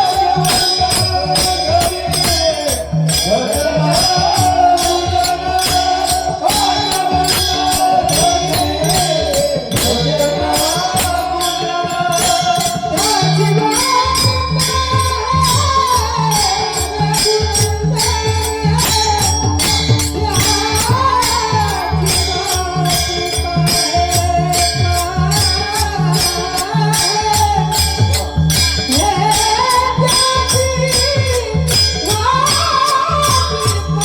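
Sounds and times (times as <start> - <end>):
hand drum beat: 0.0 - 34.0
person singing: 0.0 - 34.0.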